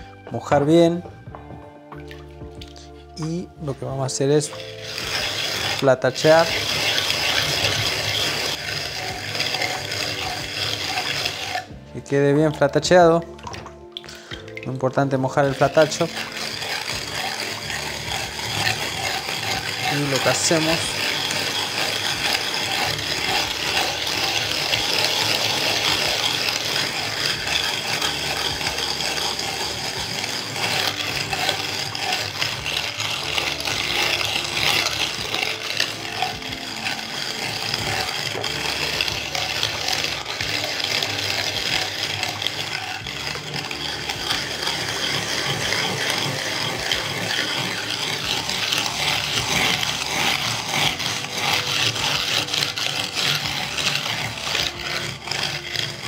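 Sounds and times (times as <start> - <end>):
wooden float scraping mortar: 0.0 - 56.0.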